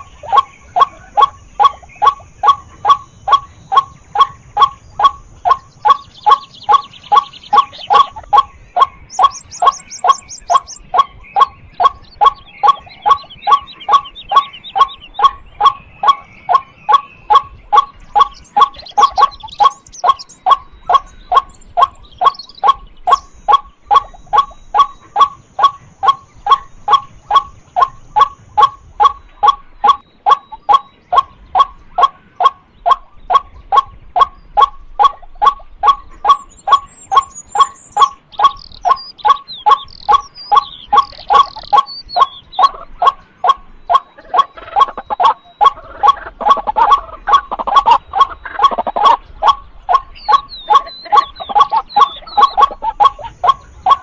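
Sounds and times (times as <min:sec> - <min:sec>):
faint bird chirps: 0:00.0 - 0:54.0
waterhen calling: 0:00.0 - 0:54.0.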